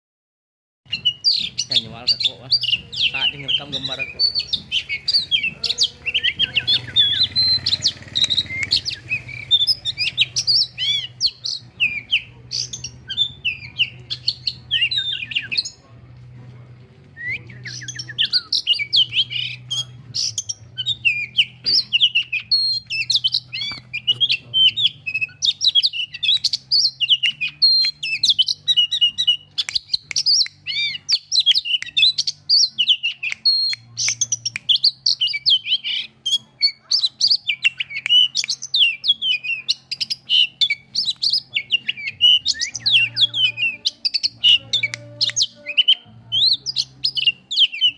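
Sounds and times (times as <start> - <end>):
bird singing whistles and chirps: 0.9 - 15.8, 17.2 - 47.9.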